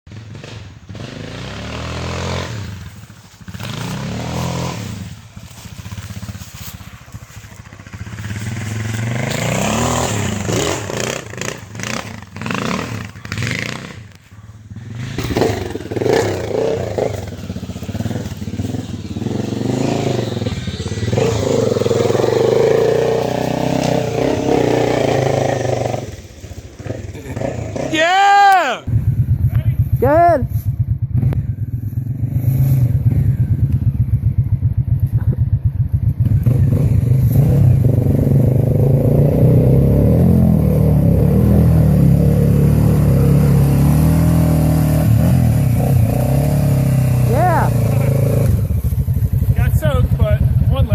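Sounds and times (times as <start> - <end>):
motorcycle engine revving: 0.1 - 50.9.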